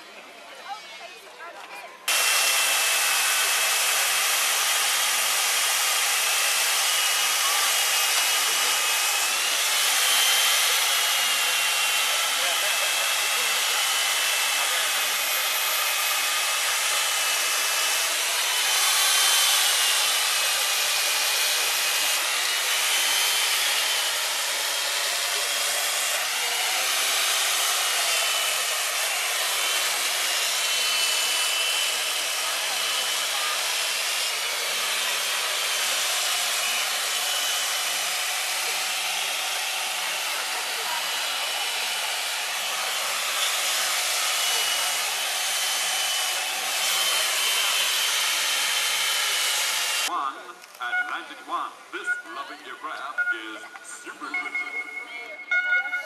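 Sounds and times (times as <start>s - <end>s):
power tool motor whine: 2.1s - 50.1s
ice chips hissing: 2.1s - 50.9s.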